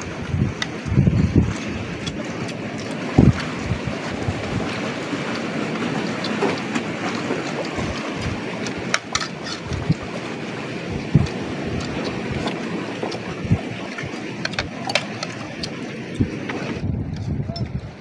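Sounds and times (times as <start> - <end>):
surf on shore: 0.0 - 18.0
wind buffeting microphone: 0.0 - 18.0.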